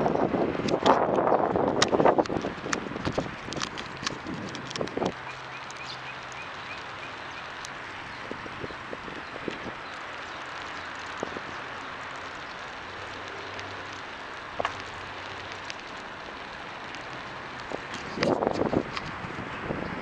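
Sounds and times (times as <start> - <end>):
wind on microphone: 0.0 - 5.3, 7.9 - 13.0, 13.6 - 20.0
bicycle tyres rolling on concrete: 0.0 - 20.0.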